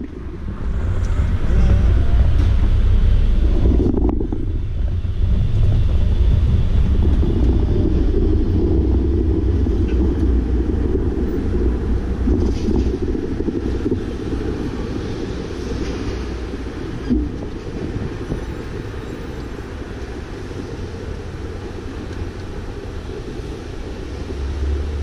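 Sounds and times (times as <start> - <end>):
street traffic rumble: 0.0 - 25.0
wind buffeting microphone: 0.0 - 25.0.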